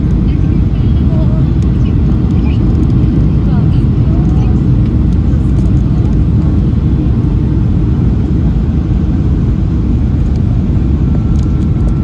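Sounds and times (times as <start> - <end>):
airplane cabin rumble: 0.0 - 12.0
faint steady whine: 0.0 - 12.0.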